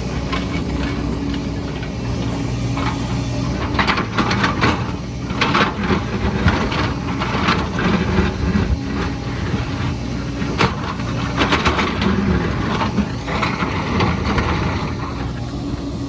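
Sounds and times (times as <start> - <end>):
excavator diesel engine running: 0.0 - 16.0
rock and soil scraping and clattering: 0.0 - 16.0.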